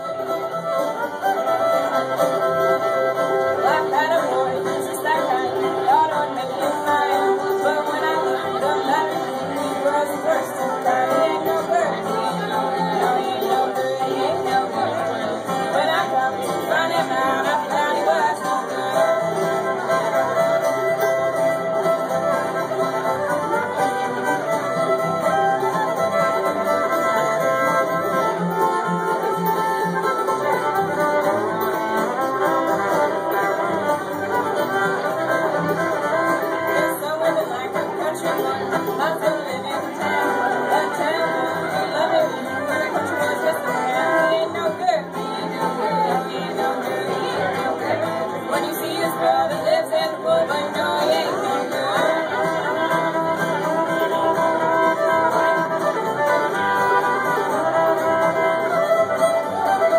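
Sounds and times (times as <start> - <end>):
banjo: 0.0 - 59.9
fiddle: 0.0 - 59.9
strummed acoustic guitar: 0.0 - 59.9.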